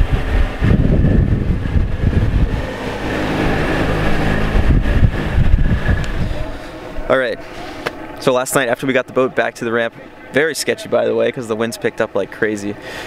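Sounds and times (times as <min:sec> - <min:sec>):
boat engine hum: 0:00.0 - 0:13.0
wind and water rumble: 0:00.0 - 0:13.0.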